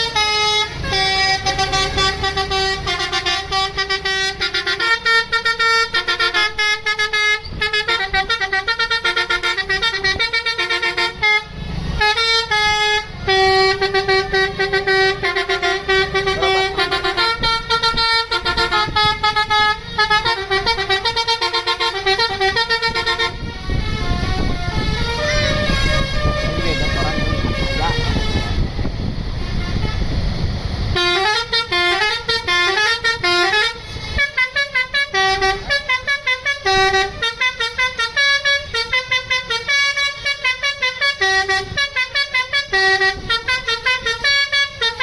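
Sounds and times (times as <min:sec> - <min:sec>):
bus musical horn melody: 0:00.0 - 0:45.0
engine rumble: 0:00.0 - 0:45.0
street noise: 0:00.0 - 0:45.0.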